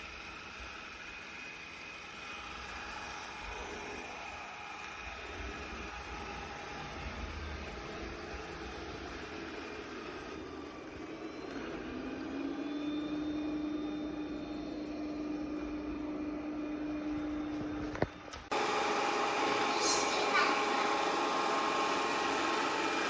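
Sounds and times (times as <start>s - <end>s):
robot vacuum whirring: 0.0s - 23.0s.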